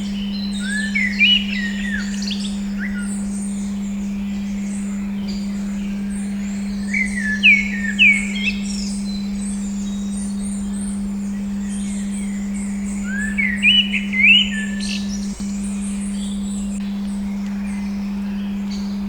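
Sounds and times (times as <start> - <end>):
faint high chirping: 0.0 - 19.0
steady low tone hum: 0.0 - 19.0
whistled bird chirps: 0.0 - 19.0.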